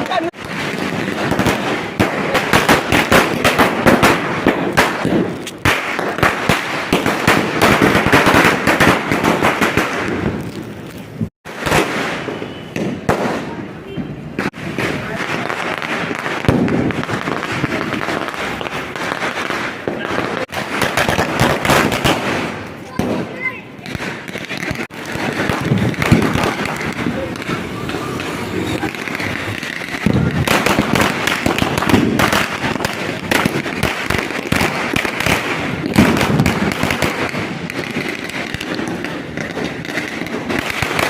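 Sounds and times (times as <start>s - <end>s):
firecrackers crackling: 0.0s - 41.0s.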